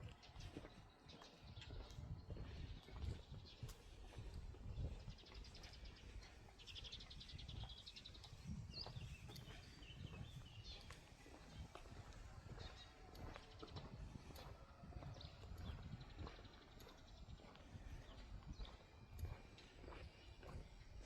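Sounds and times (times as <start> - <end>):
faint footsteps on pavement: 0.0 - 21.0.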